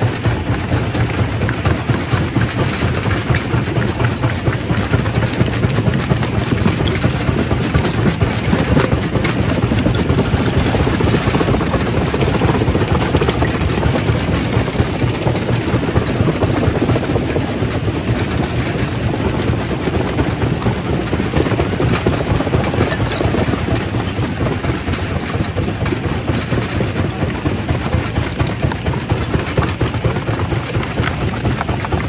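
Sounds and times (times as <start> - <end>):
rock crusher grinding: 0.0 - 26.3.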